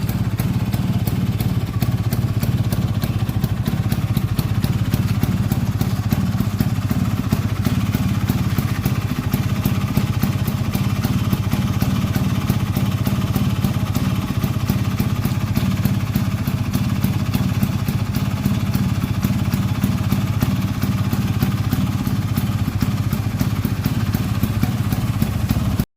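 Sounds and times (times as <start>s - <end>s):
two-stroke scooter engine running: 0.0s - 25.9s.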